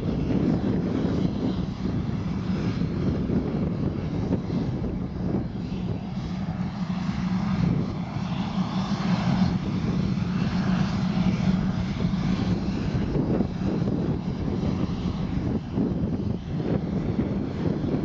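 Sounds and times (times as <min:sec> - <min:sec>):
jet engines taxiing: 0:00.0 - 0:18.0.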